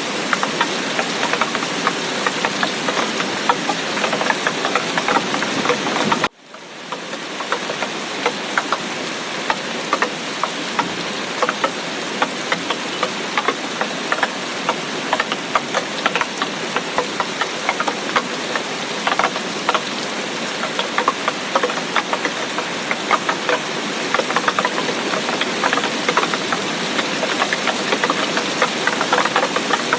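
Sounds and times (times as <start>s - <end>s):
heavy rain hissing: 0.0s - 29.9s
raindrops tapping close by: 0.0s - 29.9s.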